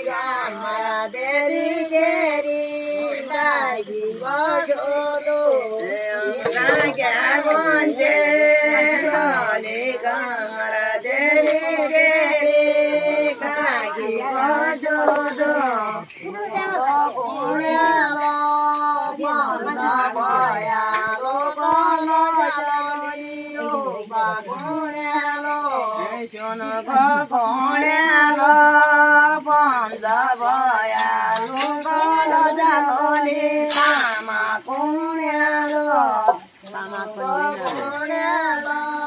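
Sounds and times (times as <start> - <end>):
women singing unaccompanied: 0.0 - 39.0.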